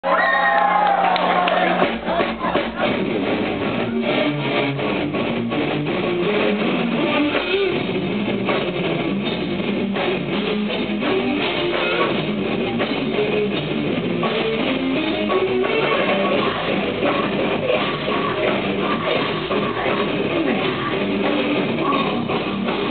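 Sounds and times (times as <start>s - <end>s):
bass guitar: 0.0s - 22.9s
electric guitars: 0.6s - 22.9s
steady drum beat: 1.2s - 22.9s.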